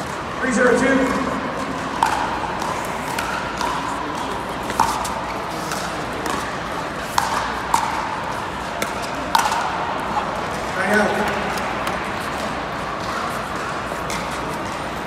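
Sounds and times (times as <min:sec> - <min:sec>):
indoor hall hum: 0:00.0 - 0:15.0
paddles hitting plastic ball: 0:01.0 - 0:14.9.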